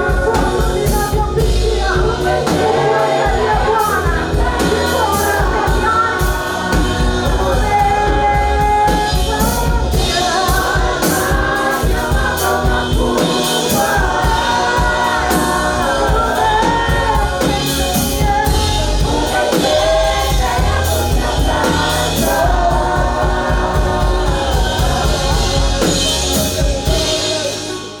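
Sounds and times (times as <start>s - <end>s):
choir singing gospel song: 0.0s - 28.0s
instrumental accompaniment: 0.0s - 28.0s.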